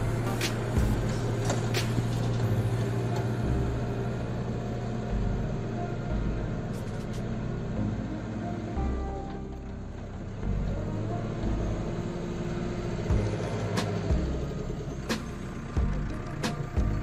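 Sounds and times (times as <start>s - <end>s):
backhoe diesel engine running: 0.0s - 17.0s.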